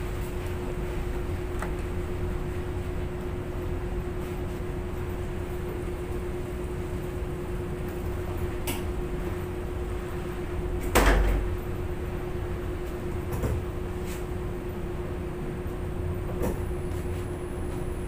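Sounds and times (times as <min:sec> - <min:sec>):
laundry machinery hum: 0:00.0 - 0:18.0.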